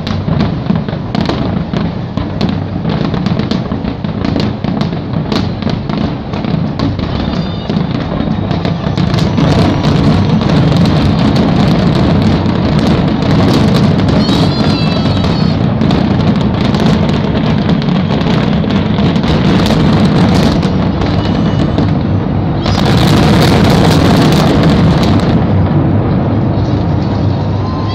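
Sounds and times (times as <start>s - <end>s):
fireworks booming and banging: 0.0s - 27.9s
fireworks crackling: 0.0s - 27.9s.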